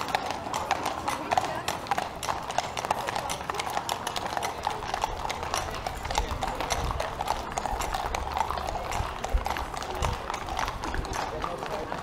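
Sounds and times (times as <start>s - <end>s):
hooves clip-clopping on asphalt: 0.0s - 12.0s.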